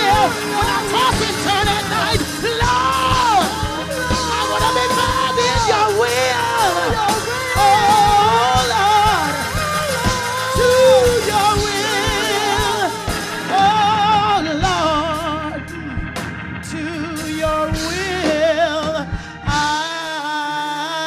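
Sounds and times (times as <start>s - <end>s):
steady bass line: 0.0s - 20.0s
drum beats: 0.0s - 20.7s
person singing with vibrato: 0.0s - 21.0s.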